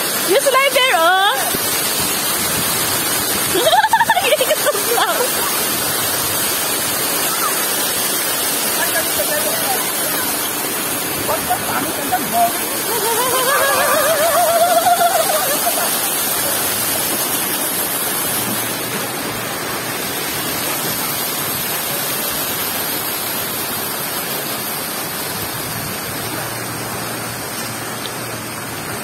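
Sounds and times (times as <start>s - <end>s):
water rushing and splashing: 0.0s - 29.0s.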